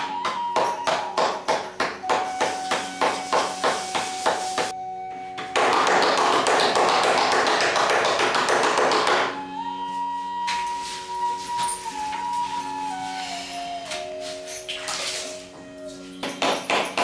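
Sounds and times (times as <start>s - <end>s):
faint instrumental music: 0.0s - 17.0s.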